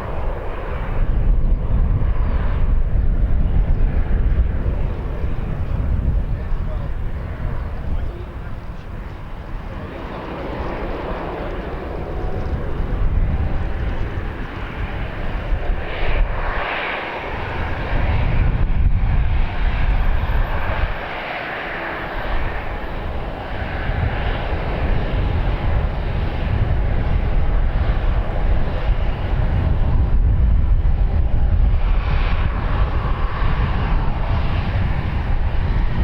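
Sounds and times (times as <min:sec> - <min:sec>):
aircraft engine rumble: 0:00.0 - 0:36.0.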